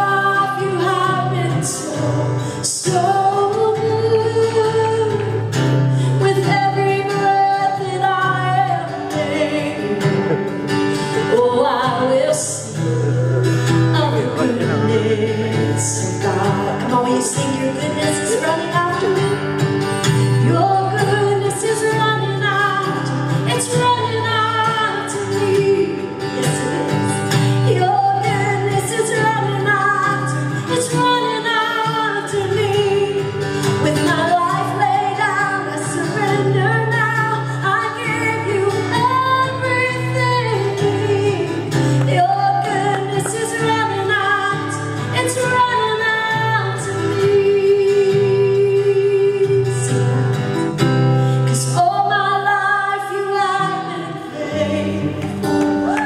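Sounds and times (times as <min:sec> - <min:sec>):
woman singing a worship song: 0:00.0 - 0:10.4, 0:11.0 - 0:50.2, 0:51.4 - 0:56.0
guitar: 0:00.0 - 0:56.0.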